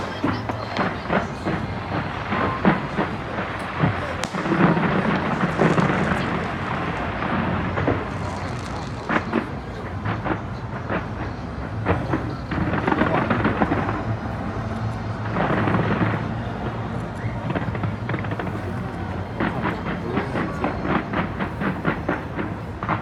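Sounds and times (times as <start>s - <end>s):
fireworks booming rumble: 0.0s - 23.0s
fireworks cracks and bangs: 0.0s - 23.0s.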